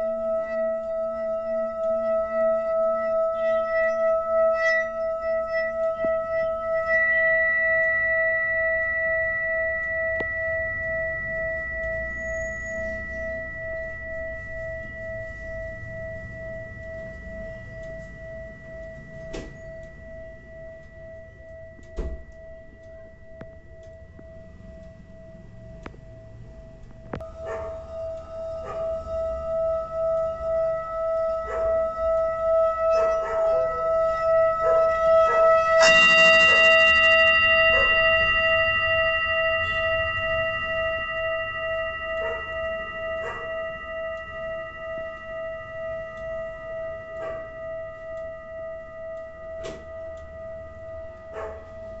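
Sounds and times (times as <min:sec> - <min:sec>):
singing bowl ringing: 0:00.0 - 0:52.0.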